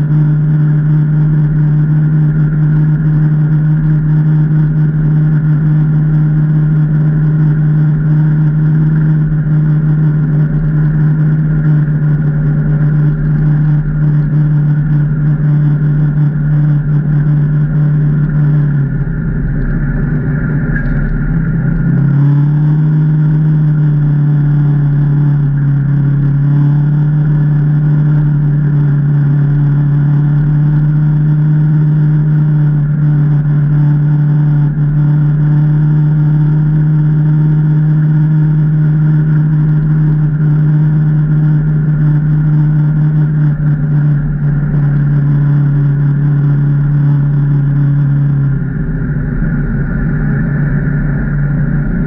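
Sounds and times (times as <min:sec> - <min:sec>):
engine running steadily: 0:00.0 - 0:52.0.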